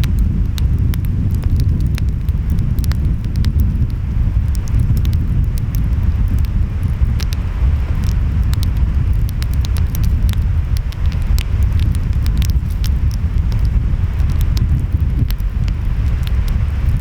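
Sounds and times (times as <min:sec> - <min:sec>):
wind: 0:00.0 - 0:17.0
wood fire crackling: 0:00.0 - 0:17.0.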